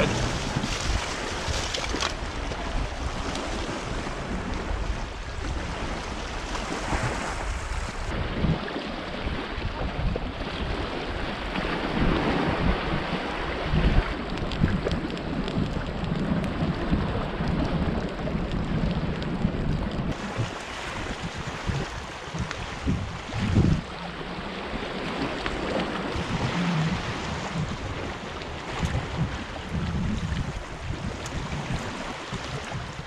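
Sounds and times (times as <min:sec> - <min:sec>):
sea surf: 0:00.0 - 0:33.0
wind buffeting the microphone: 0:00.0 - 0:33.0.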